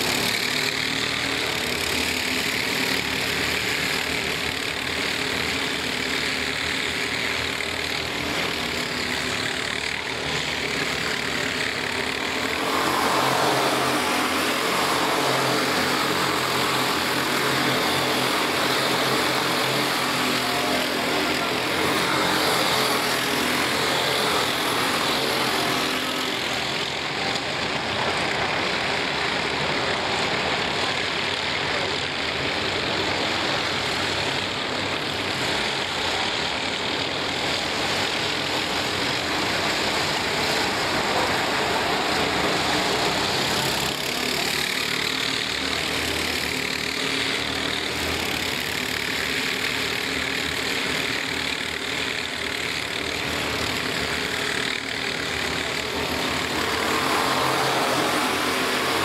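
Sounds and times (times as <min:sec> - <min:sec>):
racing kart engines: 0:00.0 - 0:59.0.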